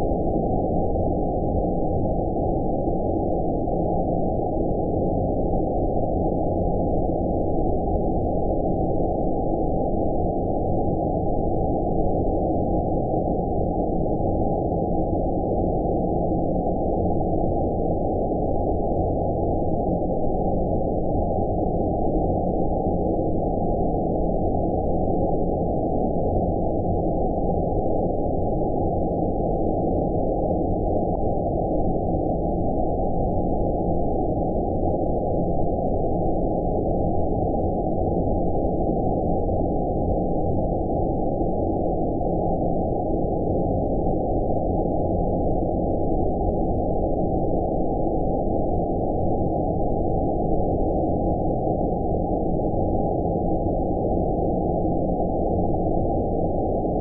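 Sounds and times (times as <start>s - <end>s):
muffled filtered white noise: 0.0s - 57.0s.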